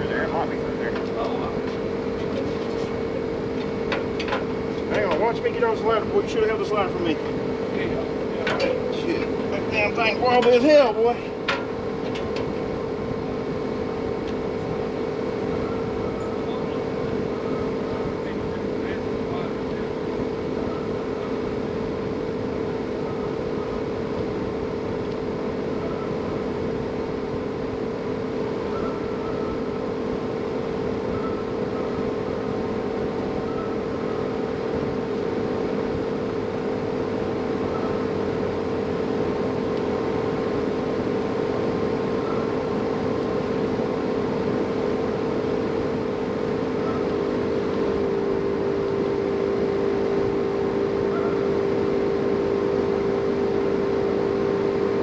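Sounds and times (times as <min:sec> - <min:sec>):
leaf blower motor running: 0:00.0 - 0:55.0.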